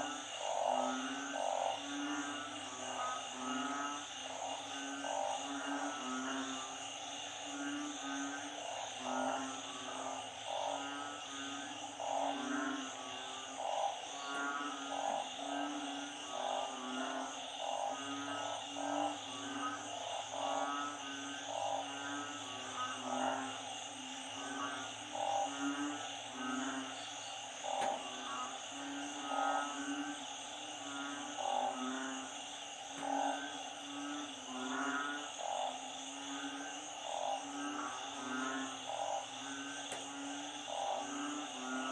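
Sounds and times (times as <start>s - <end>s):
frogs croaking and trilling: 0.0s - 41.9s
high insect drone: 0.0s - 41.9s.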